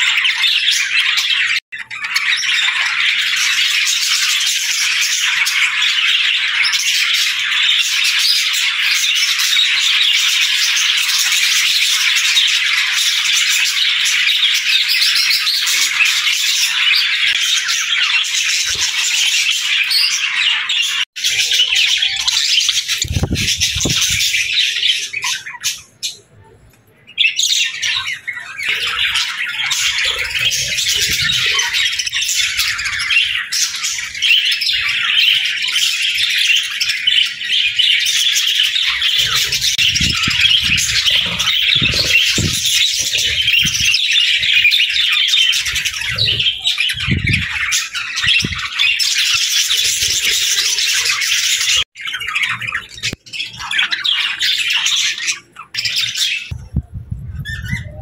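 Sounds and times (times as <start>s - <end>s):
budgerigars chattering: 0.0s - 26.3s, 27.1s - 56.6s.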